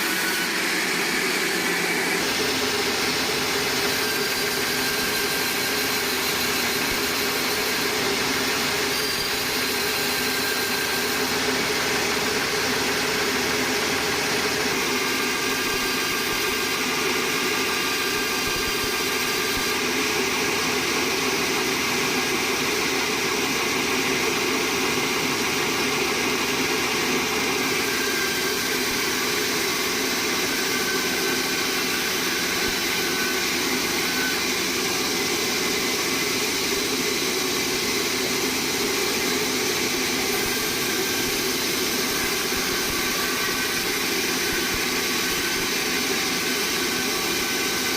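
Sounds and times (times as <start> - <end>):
sawmill machinery hum: 0.0 - 47.9.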